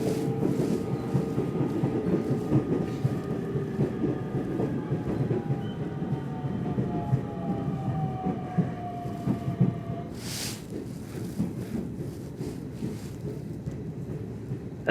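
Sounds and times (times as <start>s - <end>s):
train rumble: 0.0s - 14.9s.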